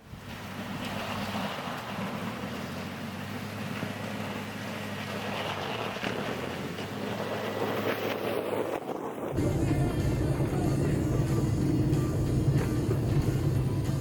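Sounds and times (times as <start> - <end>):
road and wind noise: 0.0 - 14.0
vehicle engine drone: 0.0 - 14.0.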